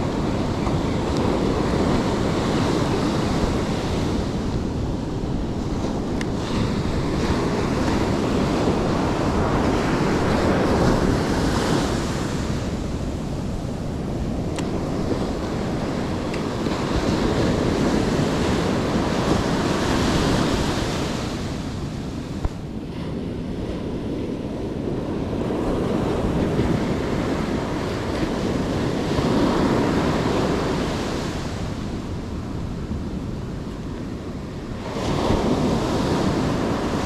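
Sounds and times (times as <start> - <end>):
surf washing onto beach: 0.0 - 37.0
wind buffeting microphone: 0.0 - 37.0.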